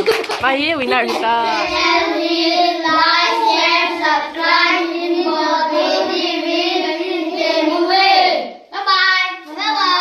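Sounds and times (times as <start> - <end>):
high child-like voice singing: 1.4 - 10.0.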